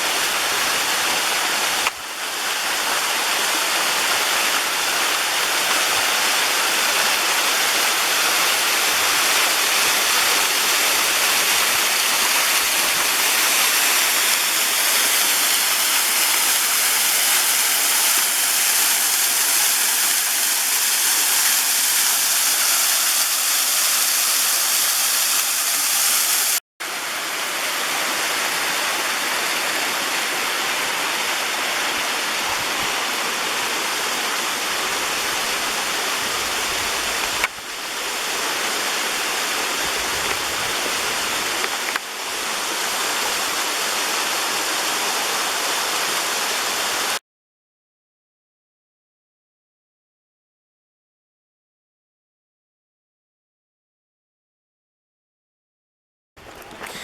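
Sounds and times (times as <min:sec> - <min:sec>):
waterfall rushing: 0:00.0 - 0:47.2, 0:56.4 - 0:57.0.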